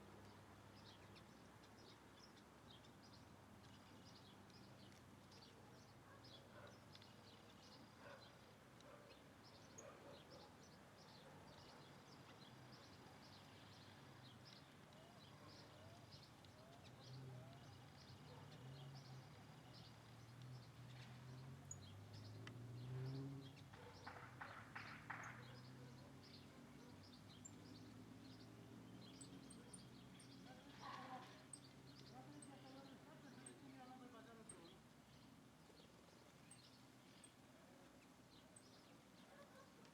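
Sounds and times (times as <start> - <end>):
faint birdsong: 0.0 - 39.9.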